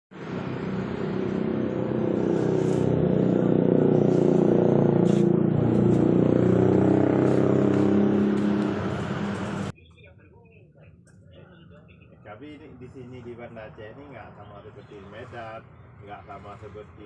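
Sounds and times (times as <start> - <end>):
road or wind noise: 0.1 - 9.8, 11.2 - 17.0
vehicle engine humming: 0.1 - 17.0.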